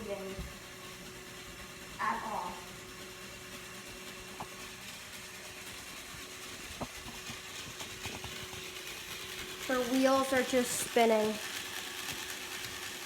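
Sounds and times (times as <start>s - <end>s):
model locomotive motor running: 0.0s - 13.0s.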